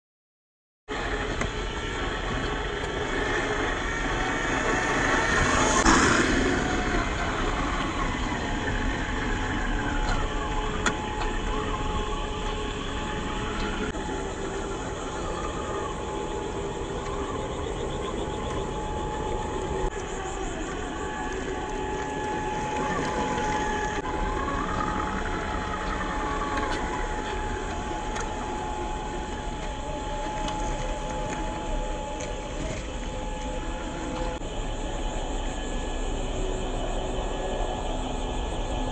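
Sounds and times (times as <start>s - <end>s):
electric motor whining: 0.9s - 38.9s.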